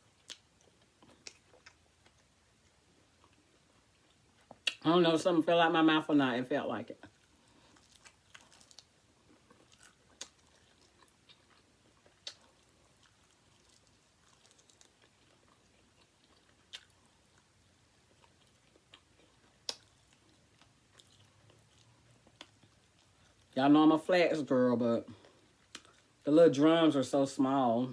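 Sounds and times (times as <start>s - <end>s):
chewing crispy chicken wings: 0.0s - 4.8s, 6.8s - 23.6s, 25.1s - 26.3s.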